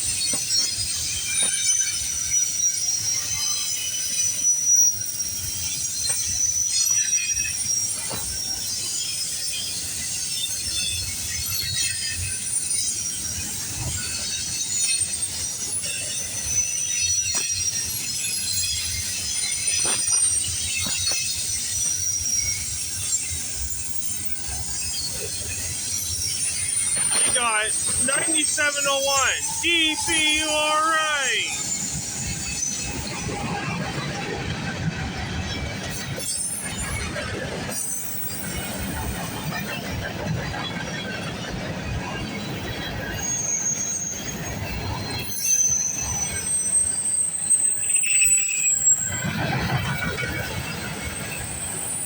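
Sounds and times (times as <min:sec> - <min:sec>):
low rumble of freight train: 0:00.0 - 0:52.0.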